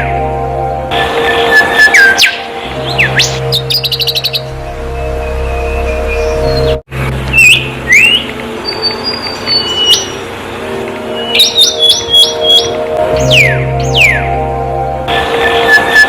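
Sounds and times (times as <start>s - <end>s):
birds chirping and whistling: 1.2s - 10.4s, 11.0s - 14.5s, 15.3s - 16.0s.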